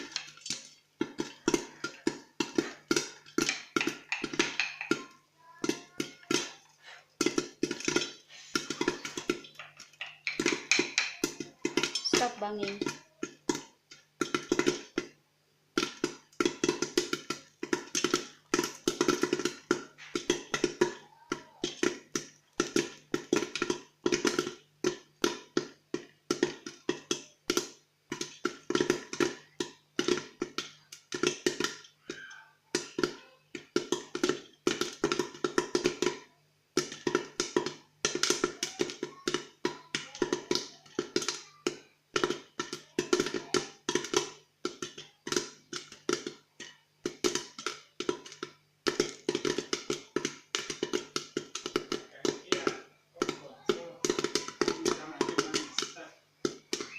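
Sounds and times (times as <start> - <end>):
popcorn popping in covered pot: 0.0 - 56.9.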